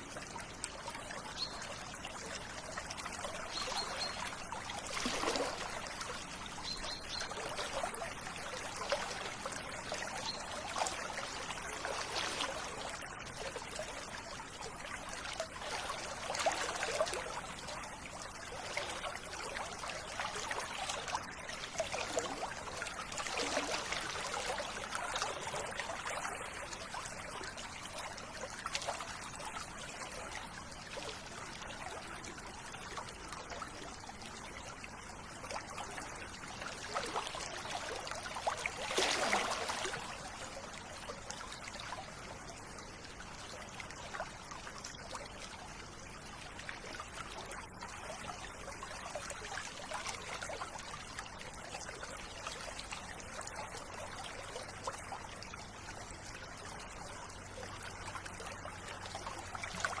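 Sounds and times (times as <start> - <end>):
river water flowing: 0.0 - 60.0.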